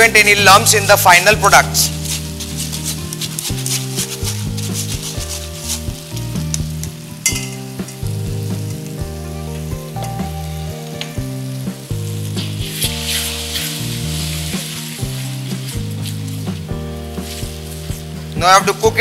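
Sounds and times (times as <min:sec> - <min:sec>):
batter sizzling in hot fat: 0:00.0 - 0:19.0
soft background music: 0:00.0 - 0:19.0.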